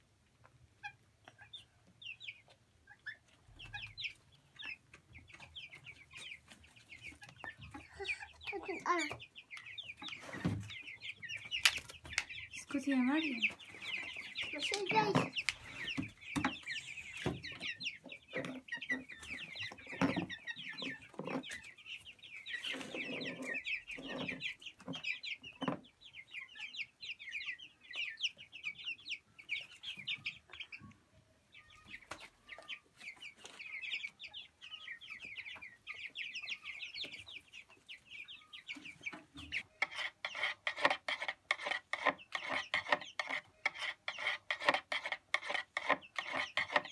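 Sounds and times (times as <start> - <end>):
chicks cheeping: 0.0 - 46.9.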